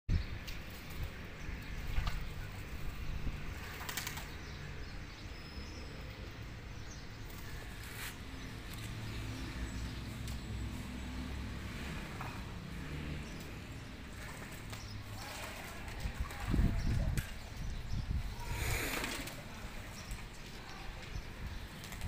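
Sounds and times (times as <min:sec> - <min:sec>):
pigeons splashing in water: 0:00.4 - 0:04.8, 0:07.2 - 0:17.6, 0:18.4 - 0:22.0.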